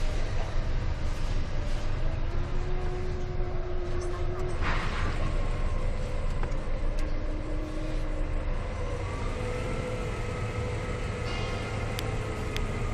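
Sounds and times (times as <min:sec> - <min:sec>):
truck diesel engine rumbling: 0:00.0 - 0:12.9.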